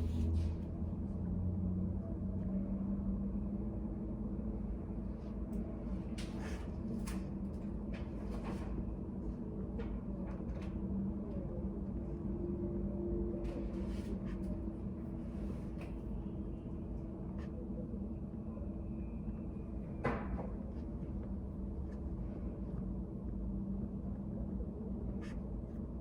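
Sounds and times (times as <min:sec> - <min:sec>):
steady low room hum: 0:00.0 - 0:26.0.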